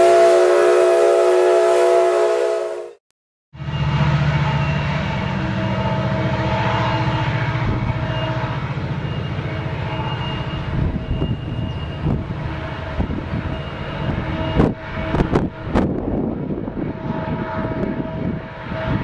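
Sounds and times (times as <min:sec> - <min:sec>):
diesel locomotive engines droning: 0:00.0 - 0:03.0, 0:03.6 - 0:19.0.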